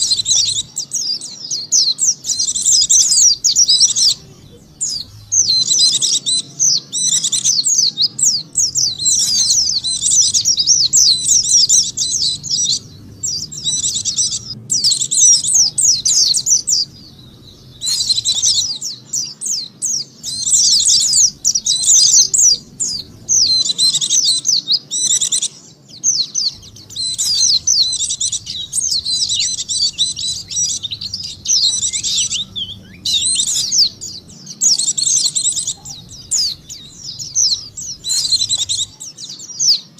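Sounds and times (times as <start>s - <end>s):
birds twittering song: 0.0s - 39.9s.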